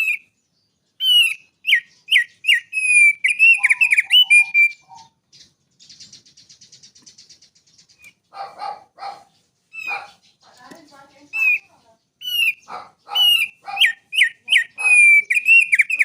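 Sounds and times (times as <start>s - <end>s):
songbird whistling song: 0.0s - 16.0s.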